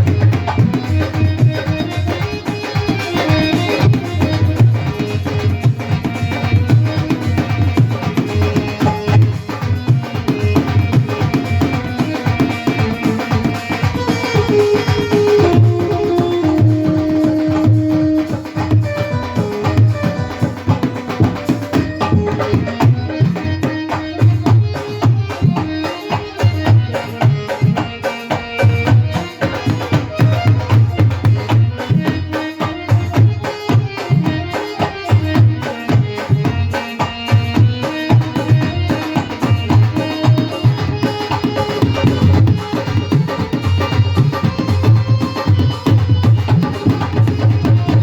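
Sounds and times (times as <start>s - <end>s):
hand drums fast rhythm: 0.0s - 48.0s
keyboard melody: 0.0s - 48.0s.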